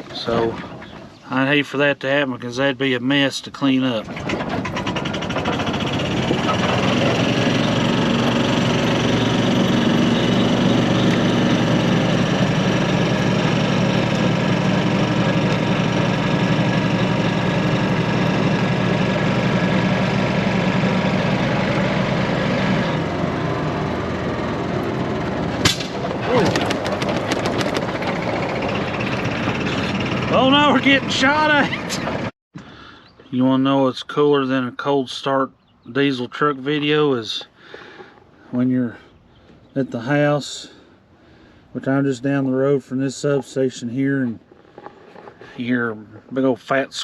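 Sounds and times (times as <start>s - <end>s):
vehicle engine running: 0.0s - 2.8s, 3.4s - 32.3s, 37.2s - 47.0s.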